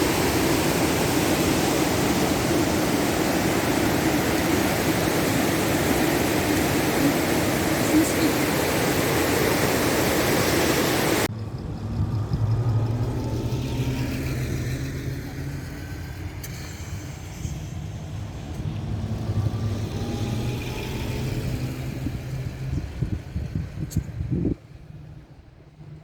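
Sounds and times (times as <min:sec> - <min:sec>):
steady rushing noise: 0:00.0 - 0:24.6
motor vehicle hum: 0:00.0 - 0:26.0.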